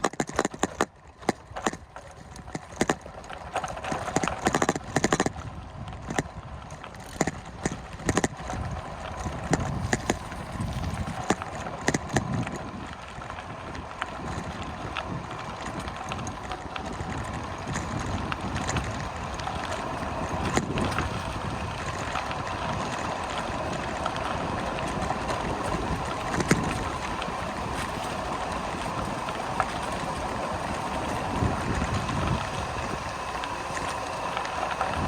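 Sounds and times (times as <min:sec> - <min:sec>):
bicycle tyre noise: 0:00.0 - 0:35.0
small clicks and rattles: 0:00.0 - 0:35.0
wind rushing over microphone: 0:04.0 - 0:35.0.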